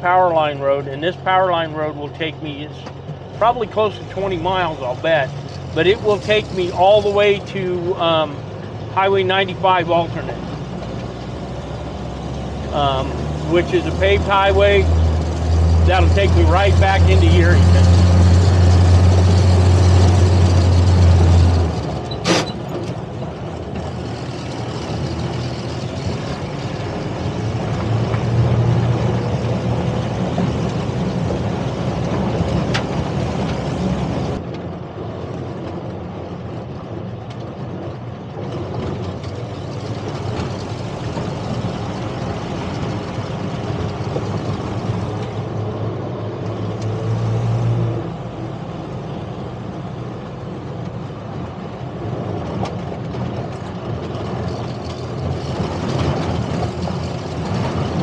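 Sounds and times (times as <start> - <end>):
jeep engine running: 0.0 - 58.0
road and wind noise: 0.0 - 58.0.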